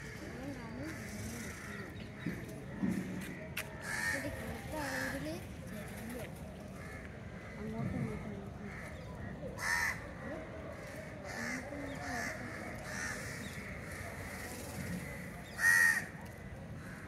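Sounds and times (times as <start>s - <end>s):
crows cawing: 0.0s - 17.0s
distant voices murmuring: 0.0s - 17.0s.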